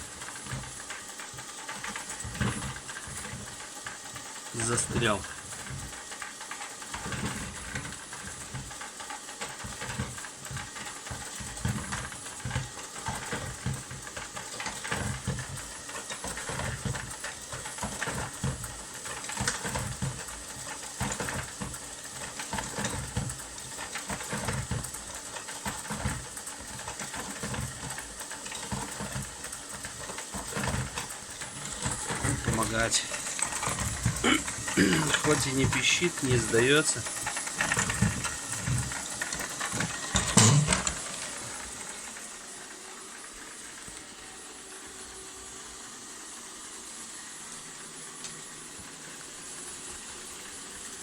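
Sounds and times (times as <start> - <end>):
robot vacuum fan humming: 0.0 - 51.0.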